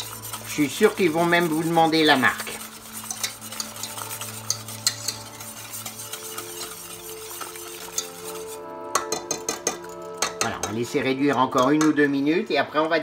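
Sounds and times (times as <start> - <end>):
sauce simmering in a pan: 0.0 - 10.6.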